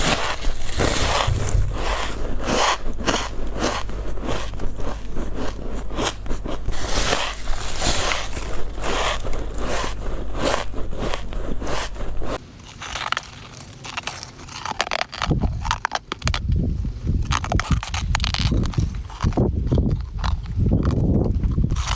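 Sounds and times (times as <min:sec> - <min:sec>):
ice cubes crunched by teeth: 0:00.0 - 0:16.4, 0:17.2 - 0:20.6.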